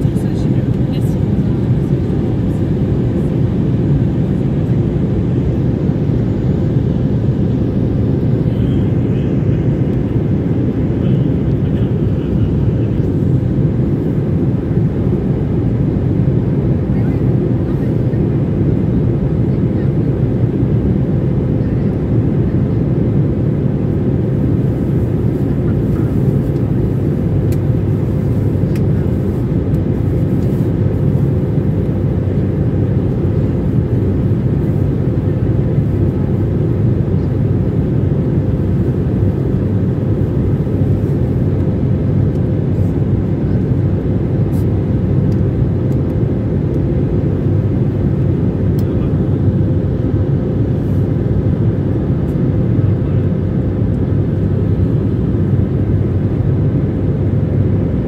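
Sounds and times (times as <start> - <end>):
jet engine and airflow roar: 0.0 - 58.0.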